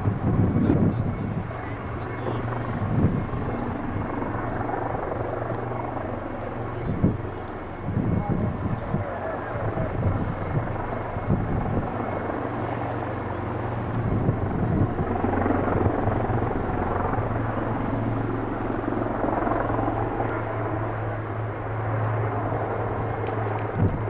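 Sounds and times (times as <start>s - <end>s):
constant low hum: 0.0s - 24.0s
helicopter engine and rotors: 0.0s - 24.0s.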